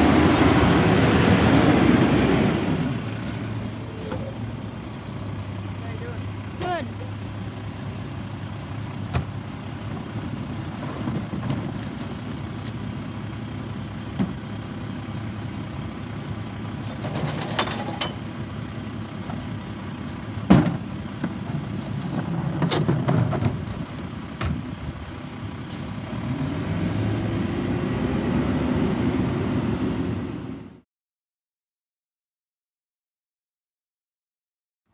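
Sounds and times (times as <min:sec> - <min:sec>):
diesel truck engine running: 0:00.0 - 0:30.8.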